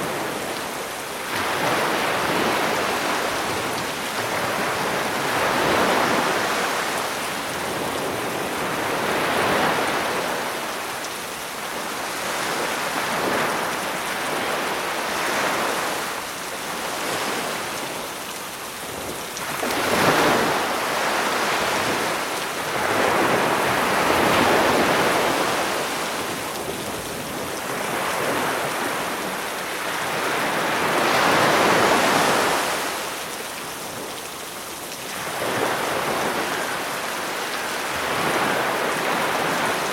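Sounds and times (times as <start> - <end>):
rain hiss: 0.0 - 39.9
sea waves breaking on shore: 0.0 - 39.9.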